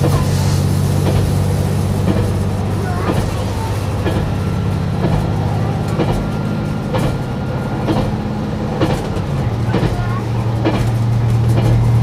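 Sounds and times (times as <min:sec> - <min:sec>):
diesel engine drone: 0:00.0 - 0:12.0
wheels clacking over rail joints: 0:00.0 - 0:12.0.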